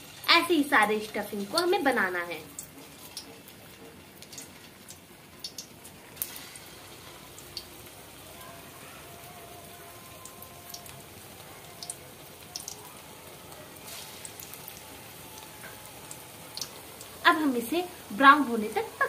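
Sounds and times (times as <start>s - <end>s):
oil crackles and pops: 0.0s - 19.0s
patties sizzling in hot oil: 0.0s - 19.0s.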